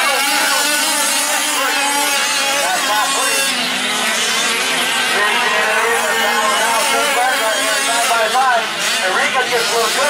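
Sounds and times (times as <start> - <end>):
small two-stroke engines revving: 0.0 - 10.0.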